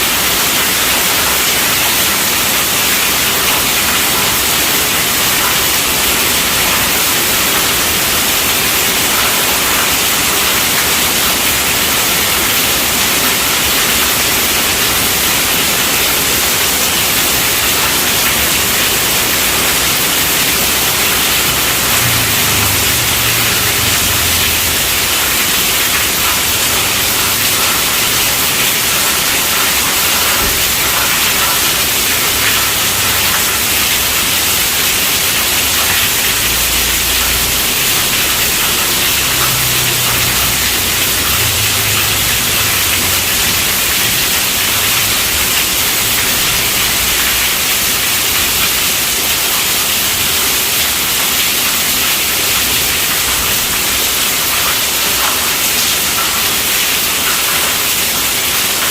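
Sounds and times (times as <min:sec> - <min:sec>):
steady rainfall hiss: 0:00.0 - 0:58.9.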